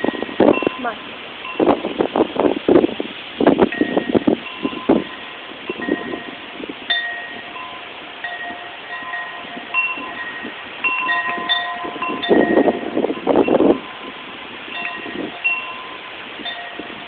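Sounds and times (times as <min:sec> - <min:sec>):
wind chimes ringing: 0:00.0 - 0:02.2, 0:03.6 - 0:17.0.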